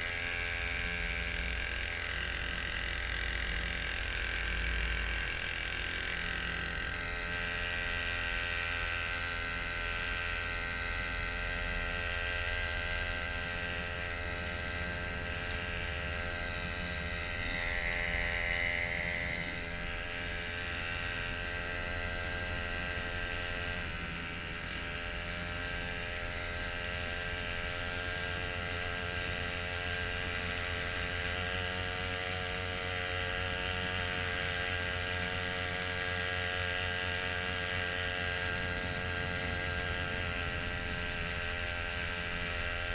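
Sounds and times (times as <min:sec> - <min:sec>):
small motor droning: 0:00.0 - 0:42.9.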